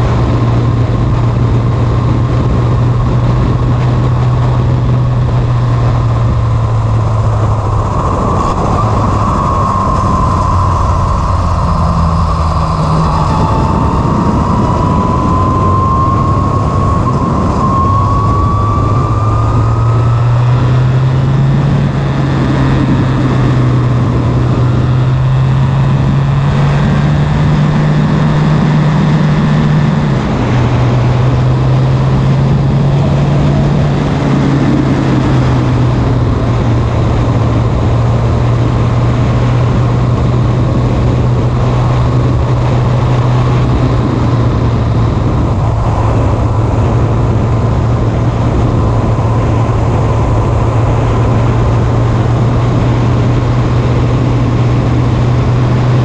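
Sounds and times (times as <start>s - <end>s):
constant rushing noise: 0.0s - 56.0s
race car engine at full throttle: 0.0s - 56.0s
thin rising whine: 0.0s - 56.0s.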